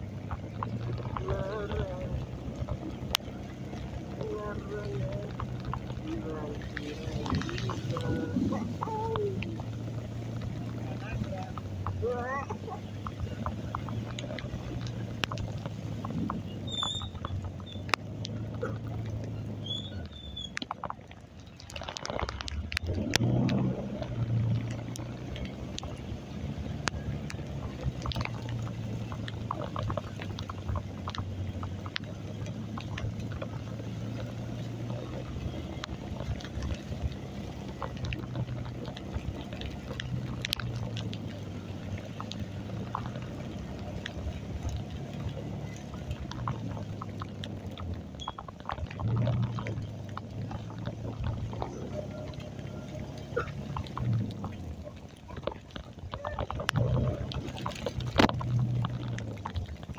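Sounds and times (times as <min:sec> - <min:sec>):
heavy rain hissing and splashing: 0:00.0 - 0:59.9
motorcycle engine hum: 0:00.0 - 0:59.9
ticks of raindrops: 0:00.0 - 0:59.9.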